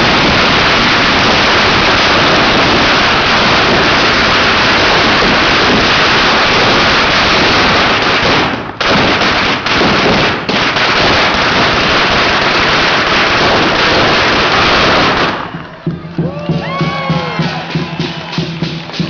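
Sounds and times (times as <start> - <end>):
firecrackers crackling rapidly: 0.0 - 19.0.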